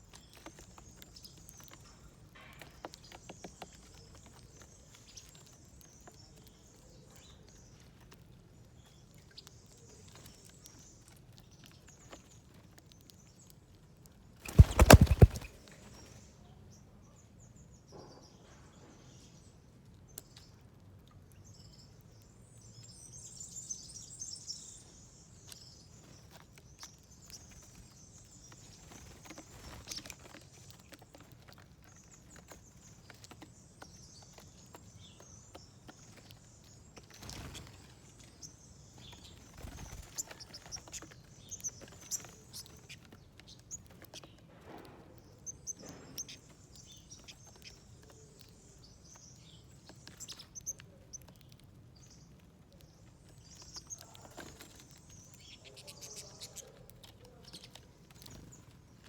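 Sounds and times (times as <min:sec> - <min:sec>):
birds pecking and pattering: 0:00.0 - 0:59.0
small birds chirping: 0:00.0 - 0:59.0.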